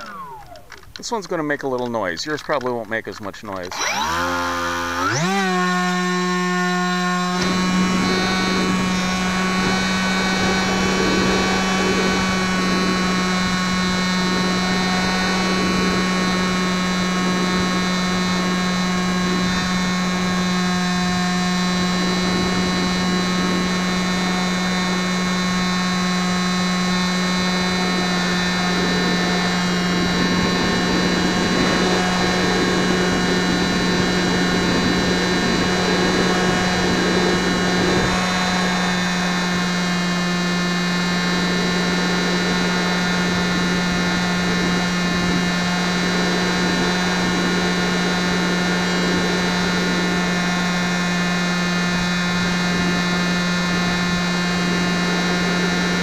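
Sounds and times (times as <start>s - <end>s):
model airplane motor and propeller: 0.0s - 56.0s.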